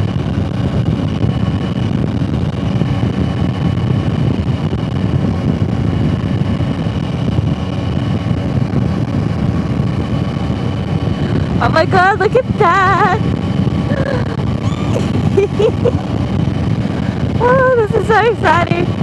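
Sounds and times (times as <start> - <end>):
motorcycle engine running: 0.0 - 19.0
wind rush over microphone: 0.0 - 19.0.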